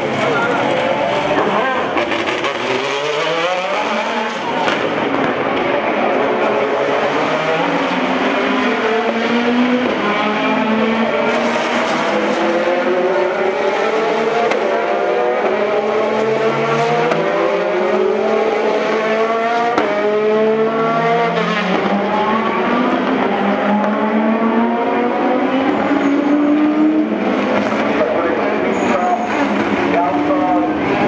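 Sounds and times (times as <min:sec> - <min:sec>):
race car engines accelerating: 0:00.0 - 0:31.0.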